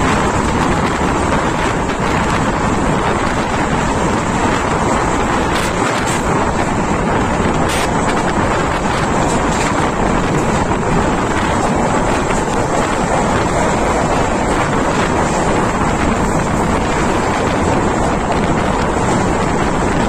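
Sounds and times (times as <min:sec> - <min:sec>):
train rumbling on track: 0:00.0 - 0:20.0
wind buffeting microphone: 0:00.0 - 0:20.0.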